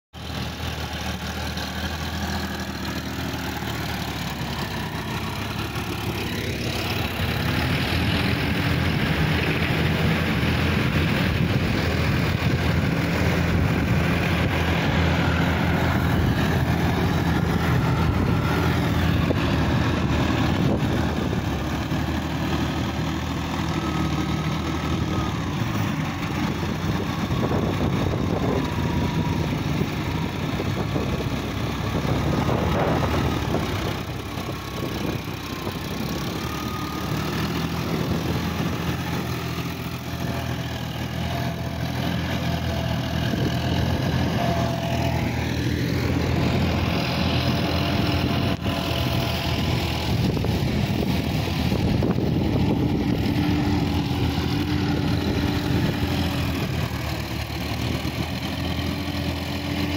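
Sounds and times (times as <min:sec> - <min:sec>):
tractor diesel engine running: 0:00.1 - 0:59.9.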